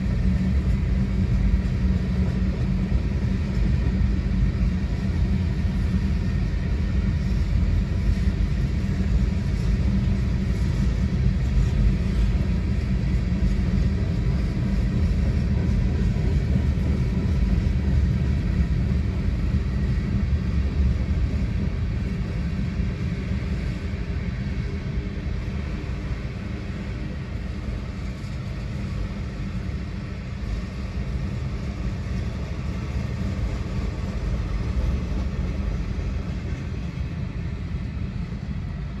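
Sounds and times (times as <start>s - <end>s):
freight train wheels rumbling on rail: 0.0s - 39.0s.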